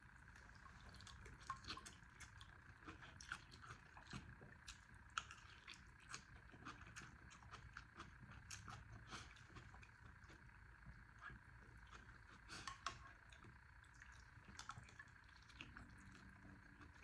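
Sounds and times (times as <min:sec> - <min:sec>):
wet chewing sounds: 0:00.3 - 0:17.0.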